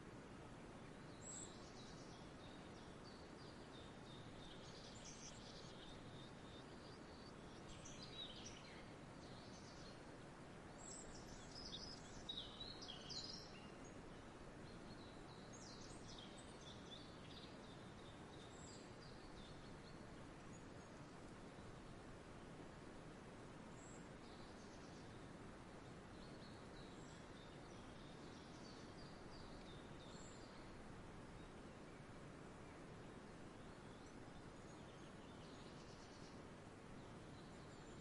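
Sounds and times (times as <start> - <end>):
low background hiss: 0.0 - 38.0
songbirds chirping: 0.0 - 38.0.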